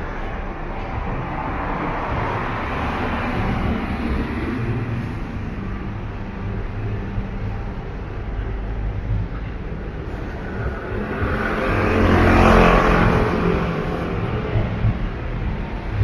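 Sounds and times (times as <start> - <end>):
steady low engine rumble: 0.0 - 16.0
vehicle passing by: 0.0 - 16.0.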